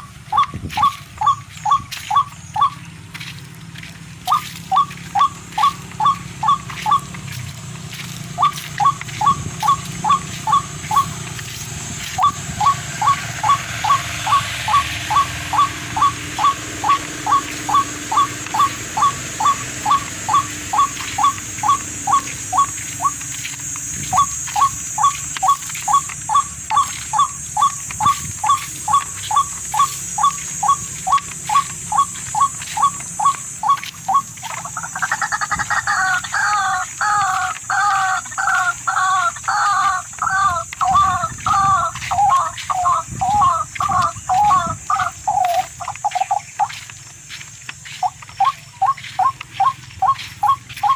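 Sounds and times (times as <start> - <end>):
animal calling short notes: 4.2 - 46.7.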